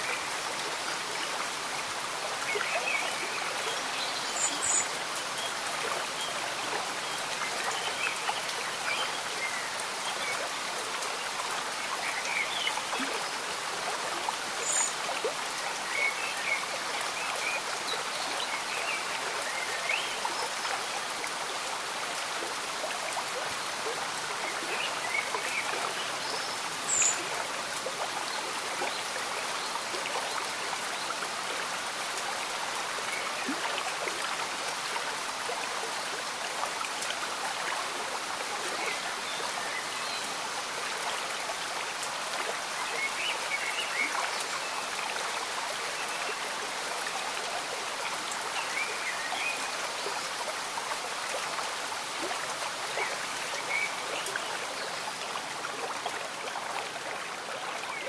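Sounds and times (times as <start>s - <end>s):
gentle rain: 0.0s - 58.0s
stream bubbling and trickling: 0.0s - 58.0s.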